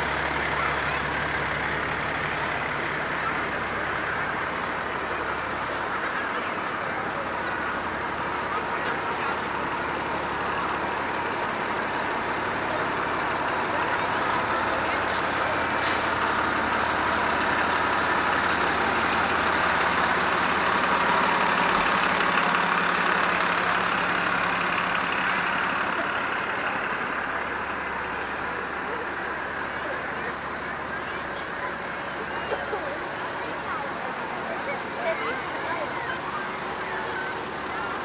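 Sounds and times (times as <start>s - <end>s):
heavy vehicle engine running: 0.0s - 38.0s.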